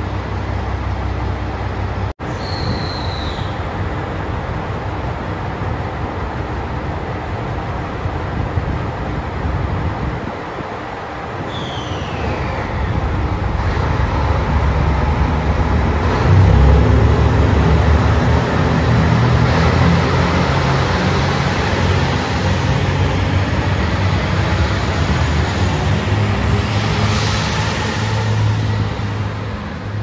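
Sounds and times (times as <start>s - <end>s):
diesel train passing: 0.0s - 30.0s.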